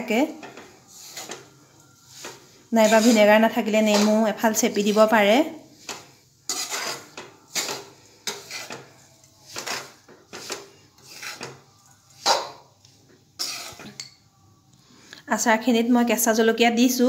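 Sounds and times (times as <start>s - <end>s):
metal spatula scraping a pan: 0.0s - 14.3s.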